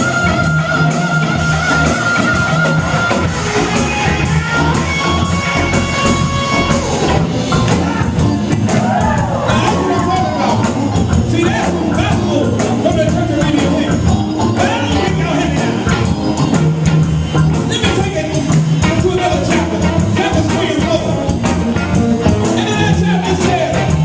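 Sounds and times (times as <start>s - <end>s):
bass guitar: 0.0s - 24.0s
drums: 0.0s - 24.0s
electric guitar: 0.0s - 24.0s.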